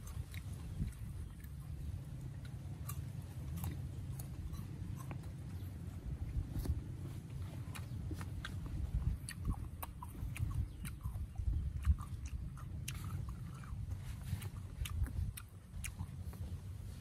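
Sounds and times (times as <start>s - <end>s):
person chewing crisp fruit: 0.0s - 17.0s.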